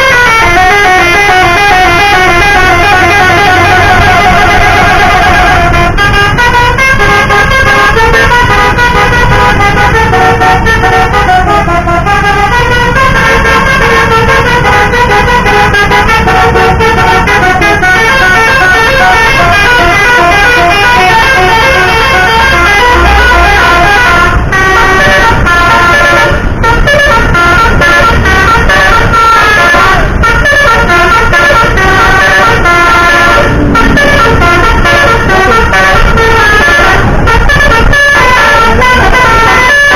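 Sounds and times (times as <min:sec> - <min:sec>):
bus musical air horn: 0:00.0 - 0:39.9.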